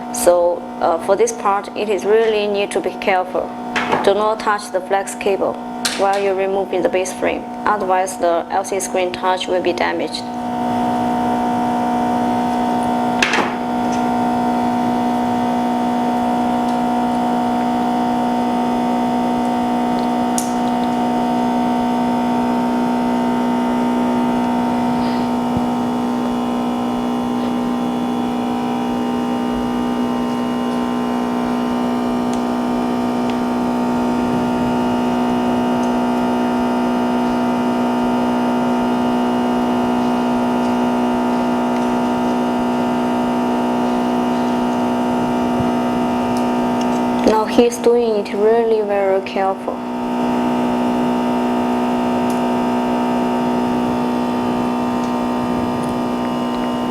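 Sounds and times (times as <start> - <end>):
electrical machine hum: 0.0 - 56.9.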